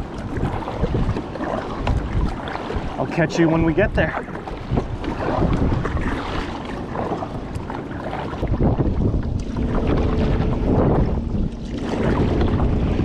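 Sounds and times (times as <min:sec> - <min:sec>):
water splashing around kayak: 0:00.0 - 0:13.0
wind buffeting microphone: 0:00.0 - 0:13.0.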